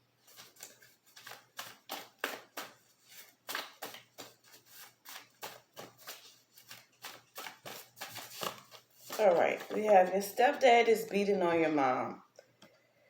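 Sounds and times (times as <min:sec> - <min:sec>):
cards being shuffled: 0:00.2 - 0:11.2.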